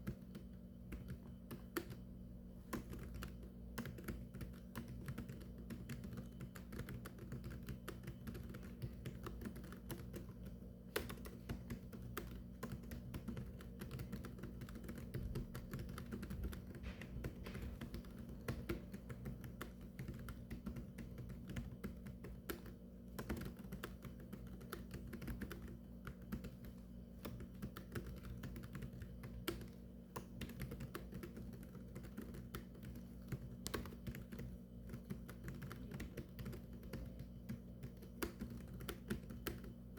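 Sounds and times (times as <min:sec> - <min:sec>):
keyboard typing clicks: 0:00.0 - 0:39.8
low steady hum: 0:00.0 - 0:39.9.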